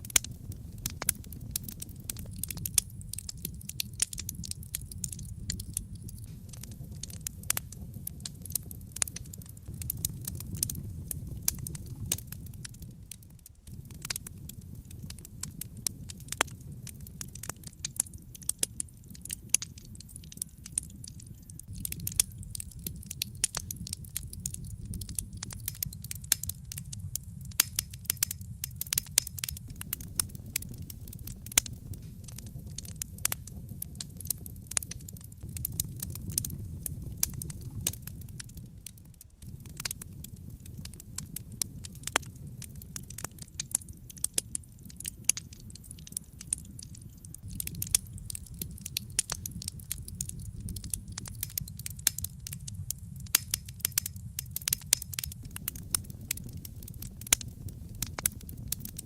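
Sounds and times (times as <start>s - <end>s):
fire crackling and popping: 0.0s - 59.0s
rumble of fire flames: 0.0s - 59.0s.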